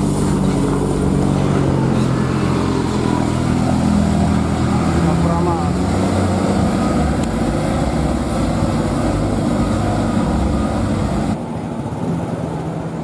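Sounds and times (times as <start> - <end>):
diesel engine rumble: 0.0 - 11.4
quiet engine hum: 0.0 - 11.4.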